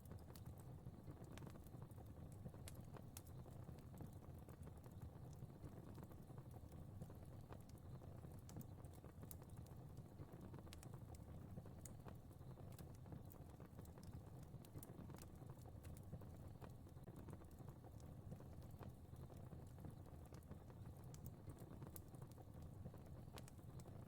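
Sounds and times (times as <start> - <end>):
fire crackling and popping: 0.0 - 24.0
low rumble of flame: 0.0 - 24.0.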